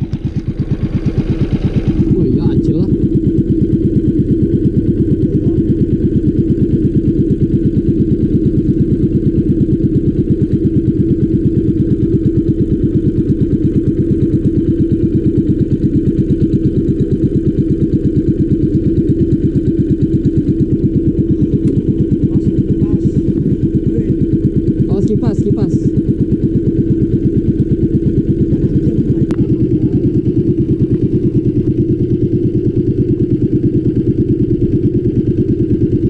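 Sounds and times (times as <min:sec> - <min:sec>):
small boat engine putter: 0:00.0 - 0:36.0.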